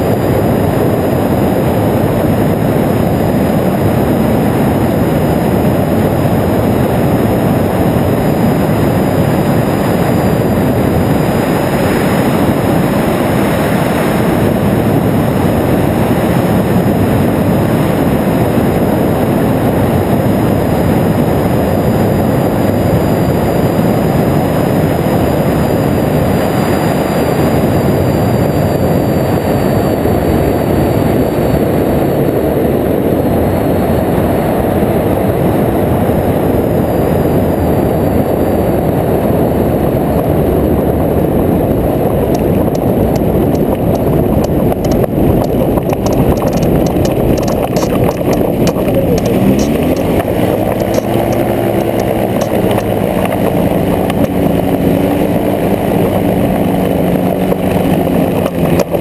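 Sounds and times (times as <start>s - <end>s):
microlight engine and propeller: 0.0s - 59.0s
wind rush on microphone: 0.0s - 59.0s.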